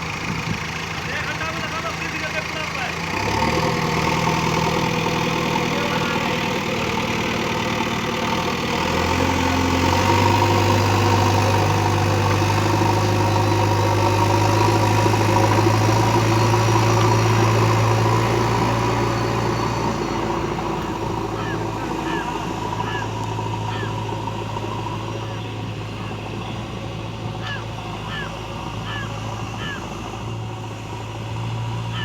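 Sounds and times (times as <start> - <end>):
diesel engine revving: 0.0 - 32.0.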